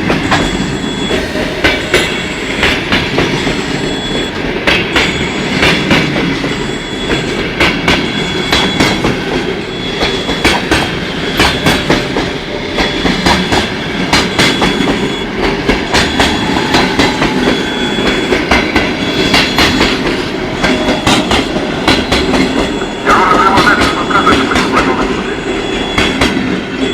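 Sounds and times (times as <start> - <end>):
train wheels clattering on rails: 0.0 - 26.9.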